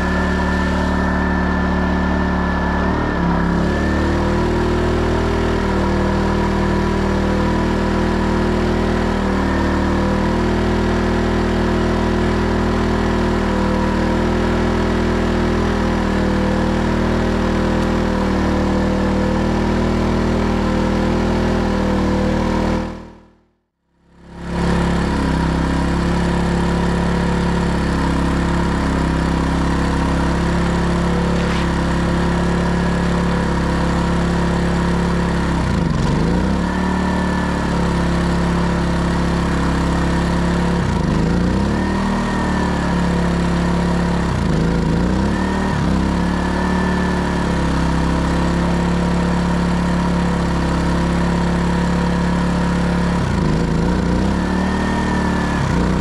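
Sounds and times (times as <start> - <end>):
generator engine running: 0.0 - 56.0.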